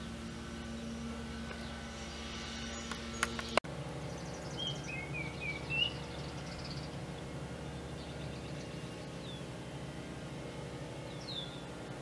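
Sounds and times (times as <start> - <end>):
bird chirping: 0.0 - 9.6, 11.0 - 11.8
low outdoor background noise: 0.0 - 12.0.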